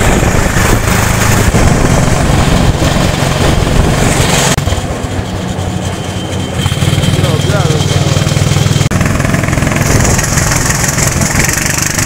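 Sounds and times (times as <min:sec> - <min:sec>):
rail trolley engine hum: 0:00.0 - 0:12.0.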